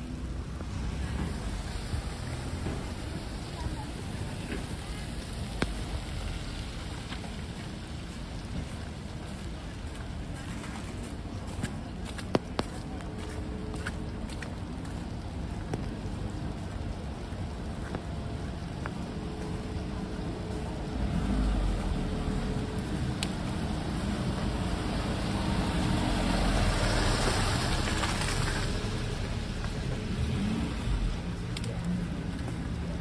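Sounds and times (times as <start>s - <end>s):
cars driving through slush: 0.0s - 33.0s.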